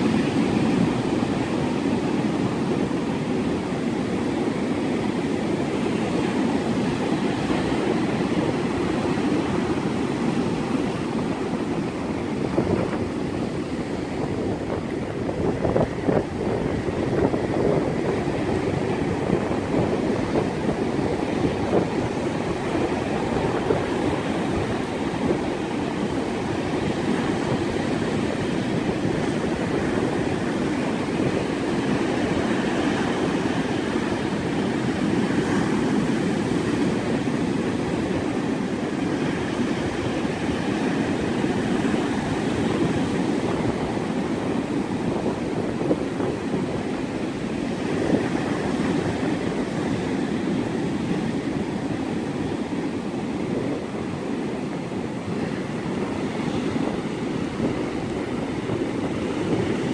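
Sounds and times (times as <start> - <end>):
surf washing up beach: 0.0 - 59.9.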